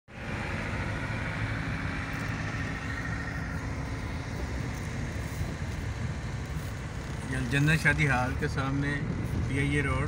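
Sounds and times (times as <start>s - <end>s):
car engine and road noise: 0.1s - 10.0s.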